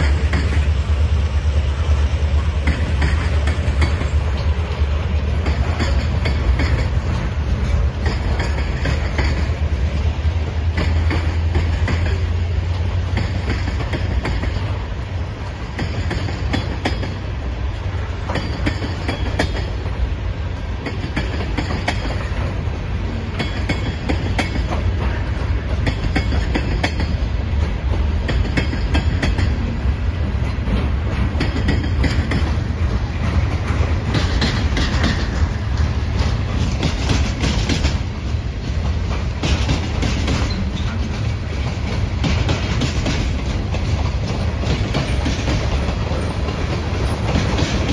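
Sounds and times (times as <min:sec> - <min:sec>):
freight train rumbling past: 0:00.0 - 0:47.9
wheels clacking over rail joints: 0:00.0 - 0:47.9.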